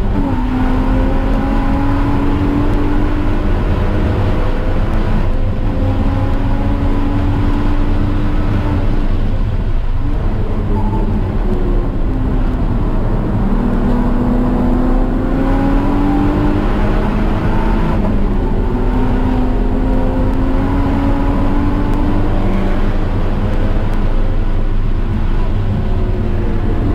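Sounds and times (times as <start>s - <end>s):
car engine revving: 0.0s - 26.9s
heavy low rumble: 0.0s - 26.9s.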